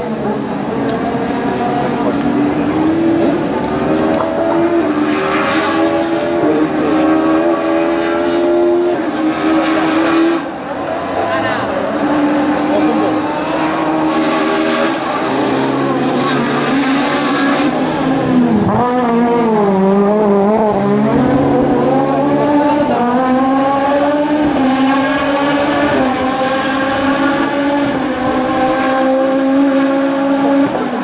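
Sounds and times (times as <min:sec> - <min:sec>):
rally car engine at high revs: 0:00.0 - 0:31.0.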